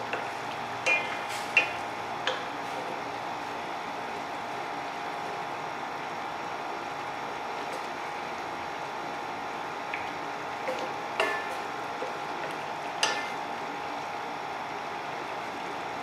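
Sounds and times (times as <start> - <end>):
pot simmering with hiss: 0.0 - 16.0.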